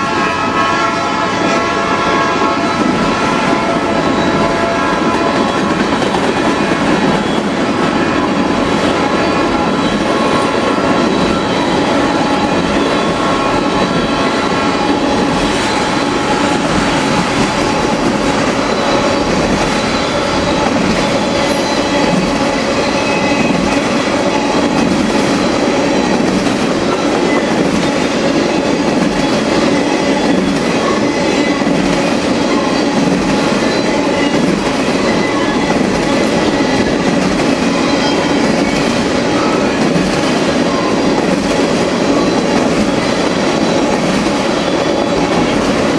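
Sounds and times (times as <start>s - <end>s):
freight train rolling past: 0.0s - 45.9s
wheel squeal: 7.0s - 43.8s.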